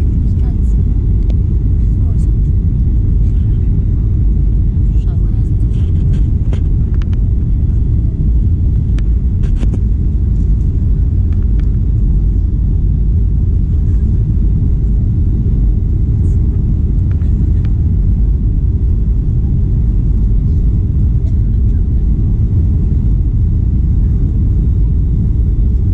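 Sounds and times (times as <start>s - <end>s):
airliner cabin low rumble: 0.0s - 25.9s.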